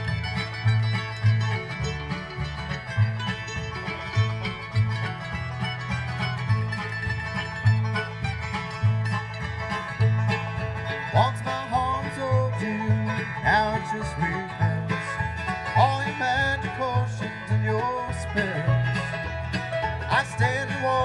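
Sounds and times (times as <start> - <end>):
bluegrass band playing: 0.0 - 21.0.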